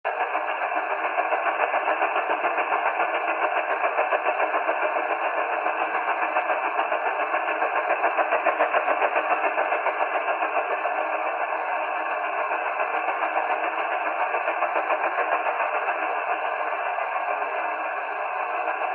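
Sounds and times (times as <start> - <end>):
radio hiss: 0.1 - 18.9
rapid radio pulsing tap: 0.1 - 18.9.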